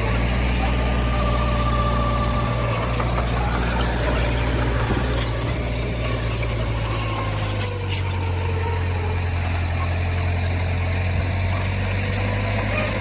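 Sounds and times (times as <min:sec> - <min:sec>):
heavy diesel machinery engine hum: 0:00.0 - 0:13.0.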